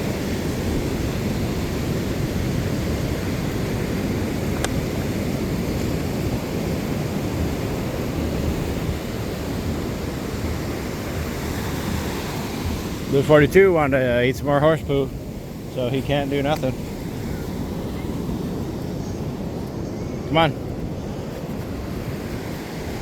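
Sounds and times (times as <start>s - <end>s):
ocean surf: 0.0s - 23.0s
wind buffeting microphone: 0.0s - 23.0s.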